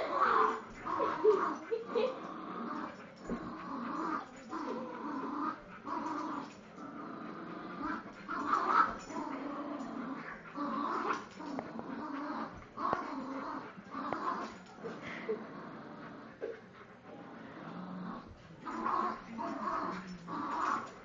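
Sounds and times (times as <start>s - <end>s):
dogs growling: 0.0s - 21.0s.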